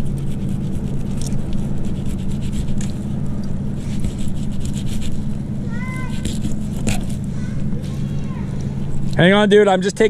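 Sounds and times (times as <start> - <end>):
scraping fish scales: 0.0 - 9.2
low engine hum: 0.0 - 10.0.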